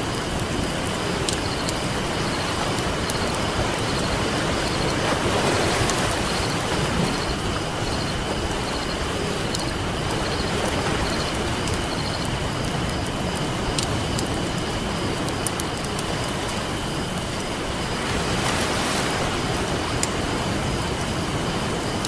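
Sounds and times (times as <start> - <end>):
campfire crackling: 0.0 - 22.0
ocean surf: 0.0 - 22.0.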